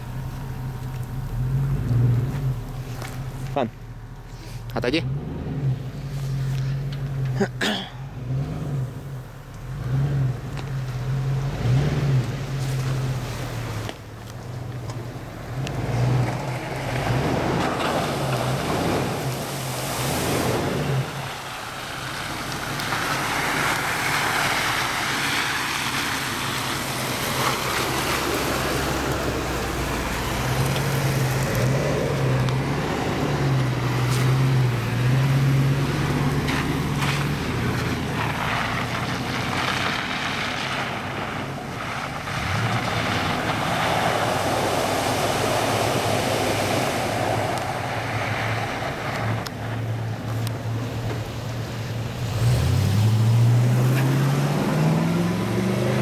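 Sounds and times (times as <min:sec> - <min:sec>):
wind and tyre noise: 0:00.0 - 0:56.0.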